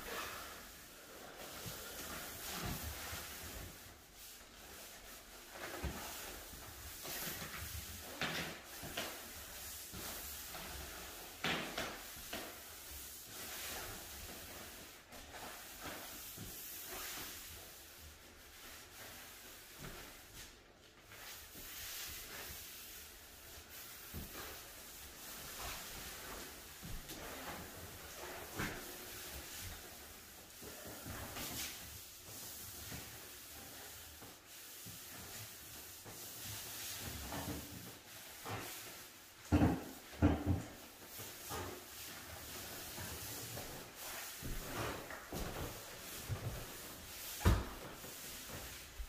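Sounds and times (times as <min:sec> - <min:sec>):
pad applicator swishing on hardwood floor: 0:01.4 - 0:49.0.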